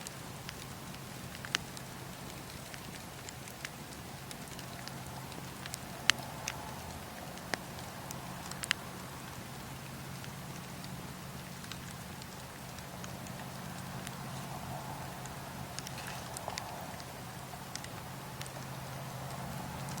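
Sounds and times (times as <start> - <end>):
steady low hum: 0.0 - 20.0
wood fire crackling and popping: 0.0 - 20.0.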